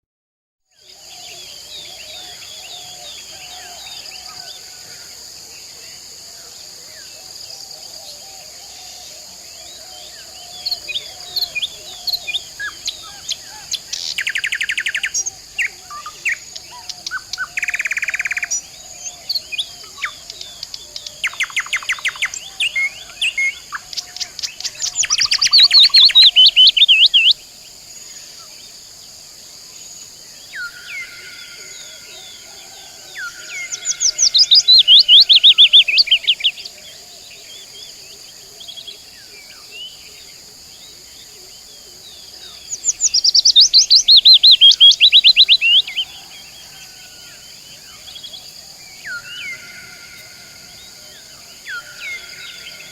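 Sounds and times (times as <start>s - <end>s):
steady high-pitched hiss: 0.7s - 52.9s
birds chirping and trilling: 7.2s - 27.4s, 30.3s - 52.9s.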